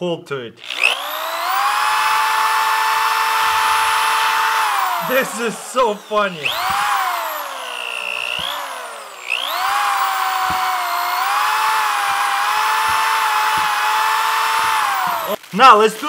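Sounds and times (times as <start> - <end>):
electric drill whining: 0.6 - 15.5.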